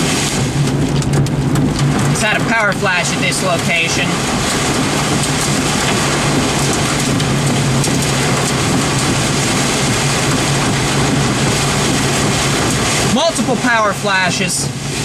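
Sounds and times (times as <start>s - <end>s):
heavy rain: 0.0s - 15.0s
storm wind roaring: 0.0s - 15.0s.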